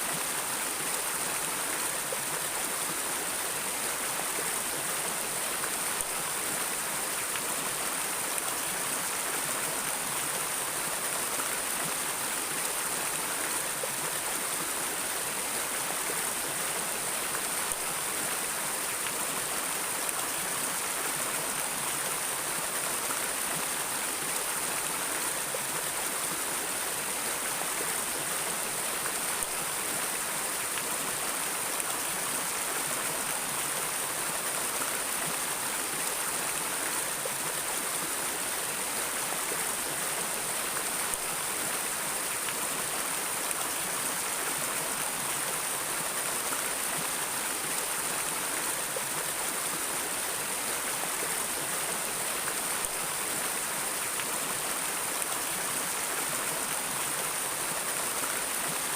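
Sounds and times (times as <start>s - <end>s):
stream of flowing water: 0.0s - 58.9s.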